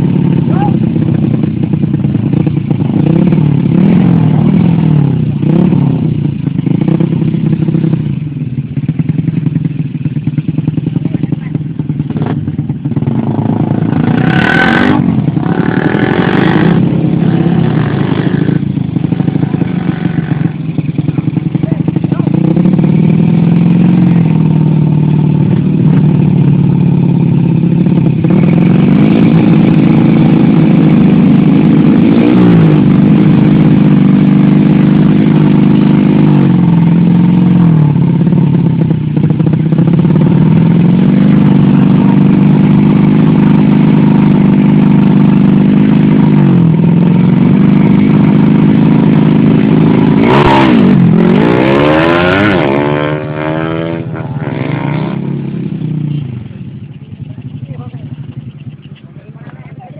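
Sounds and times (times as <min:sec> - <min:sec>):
motorcycle engines running hard: 0:00.0 - 0:59.9.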